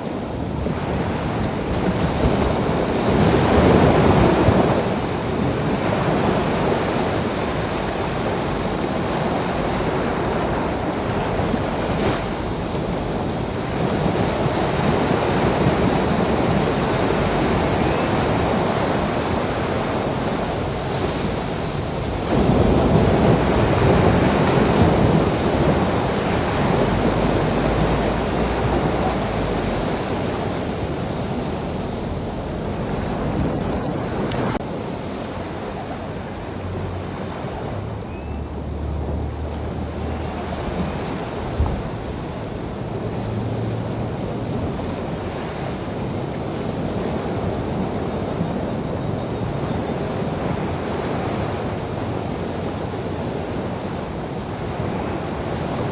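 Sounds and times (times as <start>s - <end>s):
ocean waves breaking: 0.0s - 55.9s
wind on microphone: 0.0s - 55.9s.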